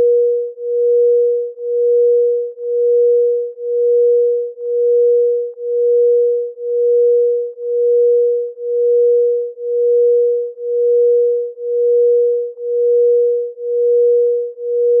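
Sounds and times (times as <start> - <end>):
pulsing electronic sine tone: 0.0 - 15.0.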